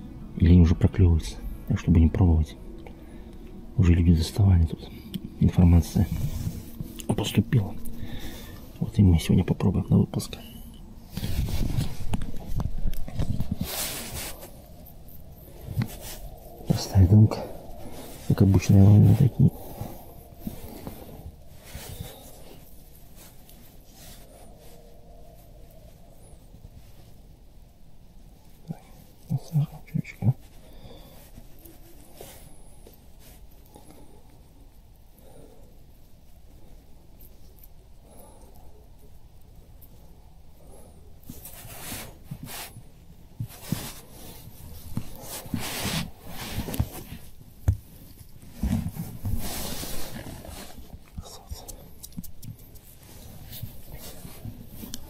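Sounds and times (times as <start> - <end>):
rustling and scraping: 4.2 - 55.0.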